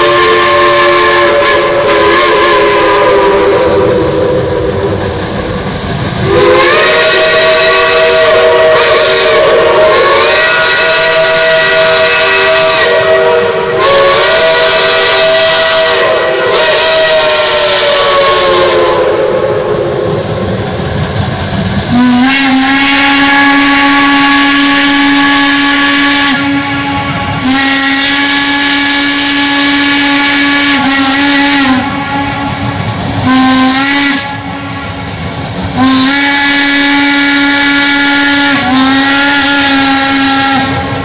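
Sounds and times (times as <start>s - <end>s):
steam whistle blasts: 0.0s - 41.0s.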